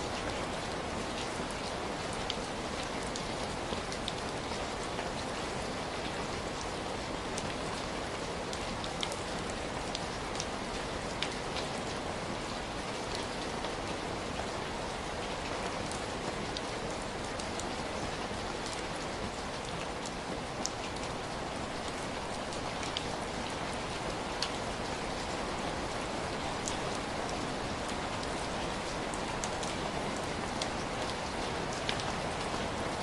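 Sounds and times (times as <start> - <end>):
rain hissing on a surface: 0.0 - 33.0.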